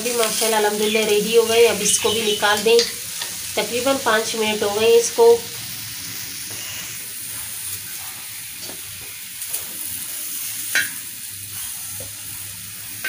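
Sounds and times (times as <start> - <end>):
tomatoes sizzling on hot iron: 0.0 - 13.0.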